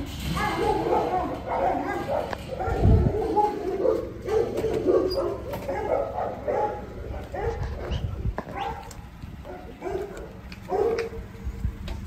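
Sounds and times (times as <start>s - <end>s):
dog barking and whining: 0.2s - 11.2s.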